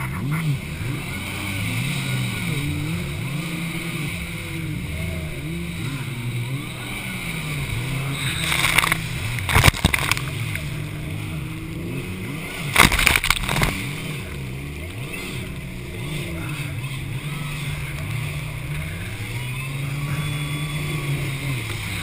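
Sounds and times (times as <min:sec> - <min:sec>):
jet ski engines passing: 0:00.0 - 0:22.0
water splashing over microphone: 0:00.0 - 0:22.0.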